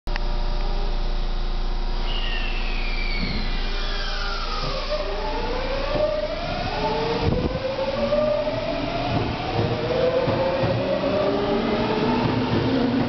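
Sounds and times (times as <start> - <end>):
electric train inverter whine: 0.1 - 13.0.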